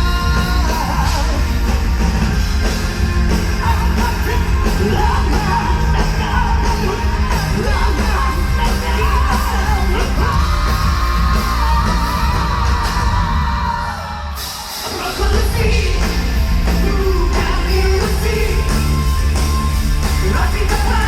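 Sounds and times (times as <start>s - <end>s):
live rock band playing: 0.0s - 21.0s
singer belting vocals: 0.0s - 21.0s.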